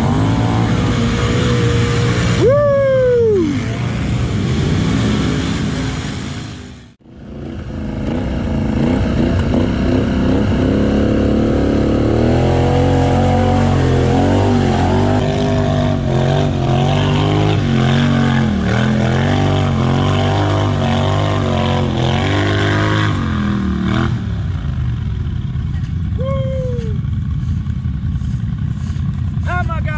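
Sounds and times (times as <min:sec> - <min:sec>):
quad engine revving: 0:00.0 - 0:06.3, 0:07.2 - 0:29.9.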